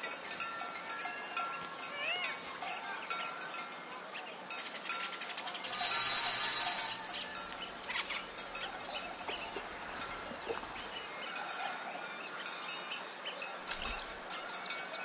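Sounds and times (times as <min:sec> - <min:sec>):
livestock bells clinking: 0:00.0 - 0:15.0.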